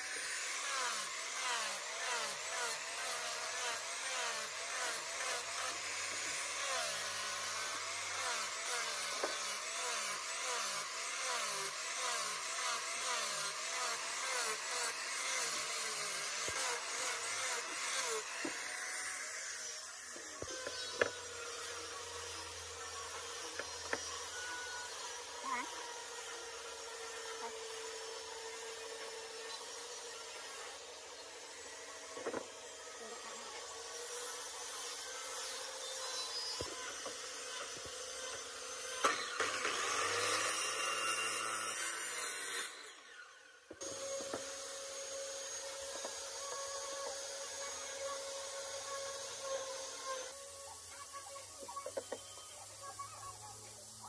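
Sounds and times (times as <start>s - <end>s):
angle grinder sanding wood: 0.0s - 54.0s
saw motor humming: 0.0s - 54.0s.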